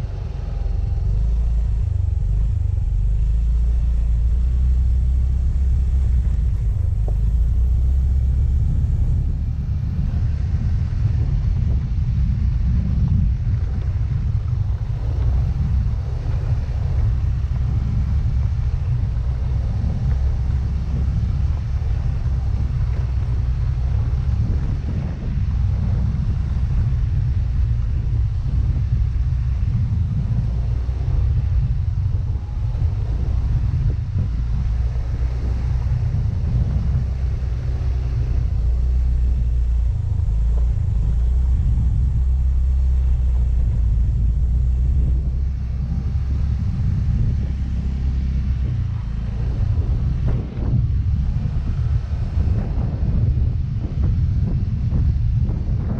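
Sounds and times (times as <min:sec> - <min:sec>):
road noise: 0:00.0 - 0:55.9
scooter engine rumble: 0:00.0 - 0:55.9
wind buffeting microphone: 0:00.0 - 0:55.9.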